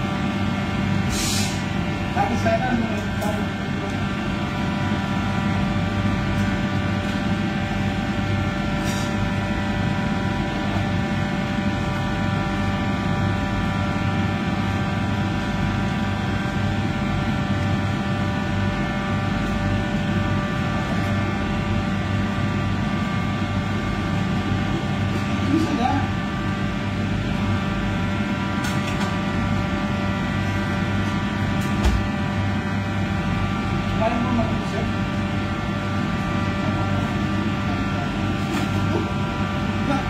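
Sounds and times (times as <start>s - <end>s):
kitchen machinery low rumble: 0.0s - 40.0s
steady humming tones: 0.0s - 40.0s.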